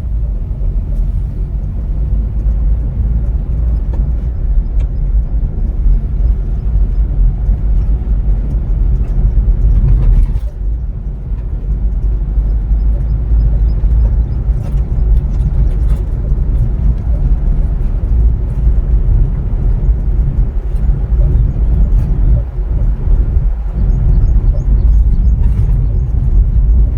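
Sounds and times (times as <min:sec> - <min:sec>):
car engine and road noise: 0:00.0 - 0:26.9.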